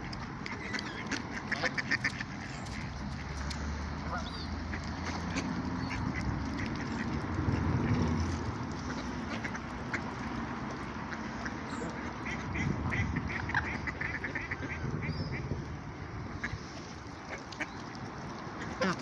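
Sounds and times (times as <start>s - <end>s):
water birds calling: 0.0s - 19.0s.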